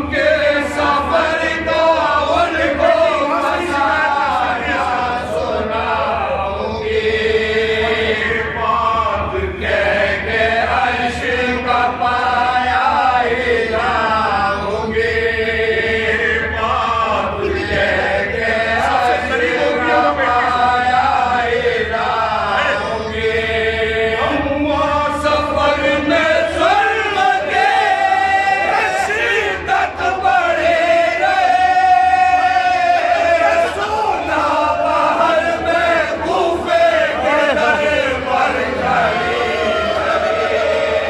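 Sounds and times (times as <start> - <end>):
men chanting into a microphone: 0.0 - 41.0.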